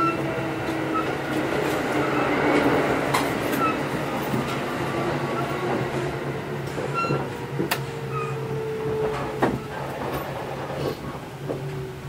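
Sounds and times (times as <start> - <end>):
sliding doors clunking: 0.0 - 12.0
train low hum: 0.0 - 12.0.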